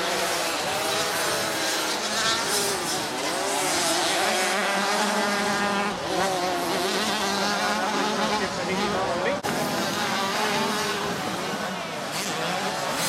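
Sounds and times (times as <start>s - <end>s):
dirt bikes revving: 0.0s - 13.0s.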